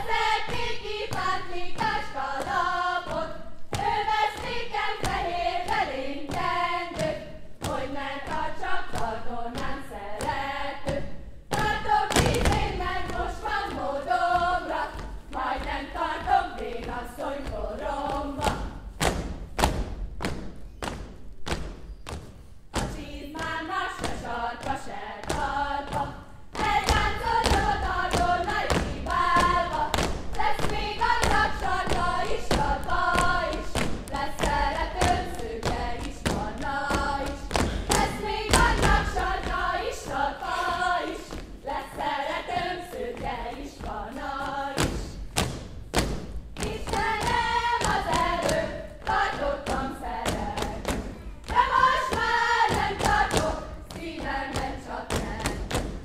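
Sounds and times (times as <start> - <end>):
group singing unaccompanied: 0.0 - 19.0, 22.8 - 45.2, 46.6 - 56.0
dancers' feet thumping on stage: 0.0 - 56.0.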